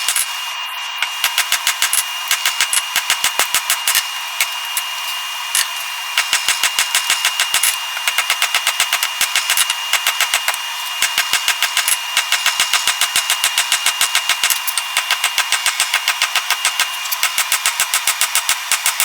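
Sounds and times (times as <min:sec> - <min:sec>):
steady high whine and hum: 0:00.0 - 0:19.0.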